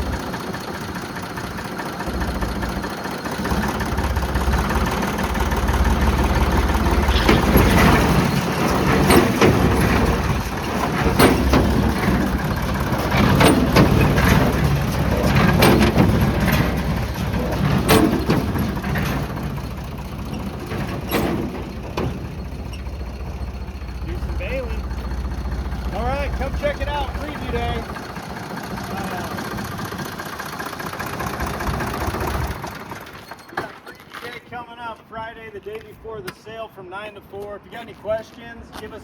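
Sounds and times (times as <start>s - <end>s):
diesel engine running: 0.0s - 33.8s
loud mechanical clatter: 0.0s - 34.2s.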